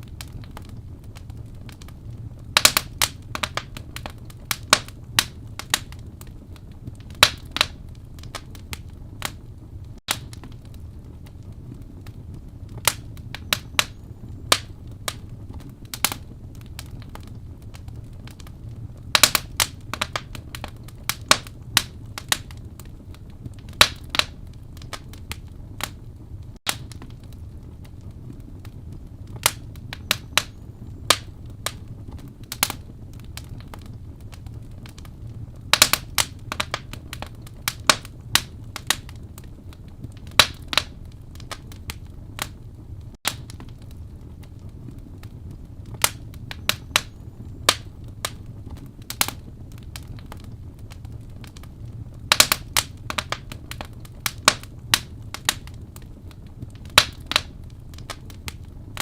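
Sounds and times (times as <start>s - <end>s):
low rumble of flames: 0.0s - 59.0s
wood fire popping and snapping: 0.0s - 59.0s.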